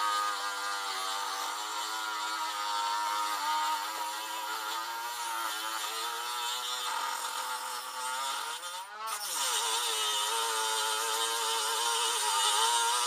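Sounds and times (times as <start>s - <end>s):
rotary tool grinding metal: 0.0s - 13.0s.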